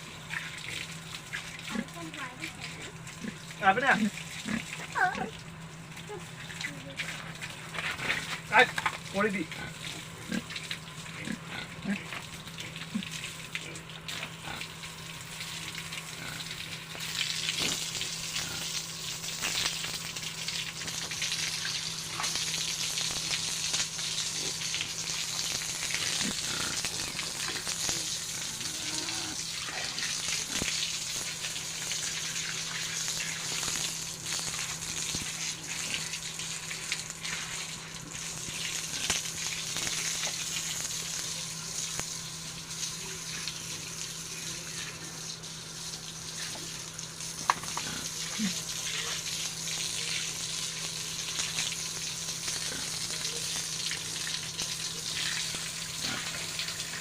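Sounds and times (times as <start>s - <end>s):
hose spraying water: 0.0s - 5.4s, 6.0s - 57.0s
low steady hum: 0.0s - 57.0s.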